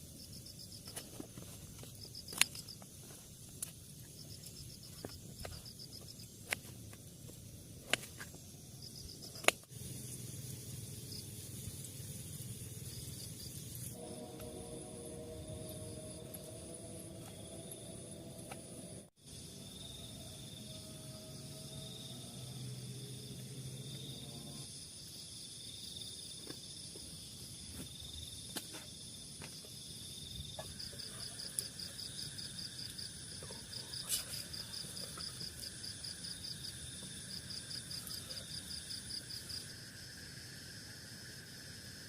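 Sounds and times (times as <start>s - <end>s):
insects trilling: 0.0s - 42.0s
insect pulsing chirp: 8.0s - 42.0s.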